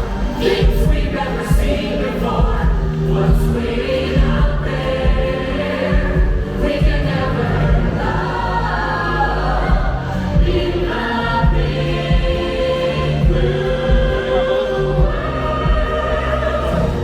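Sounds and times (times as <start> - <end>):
choir singing held notes: 0.0 - 17.0
orchestral music: 0.0 - 17.0.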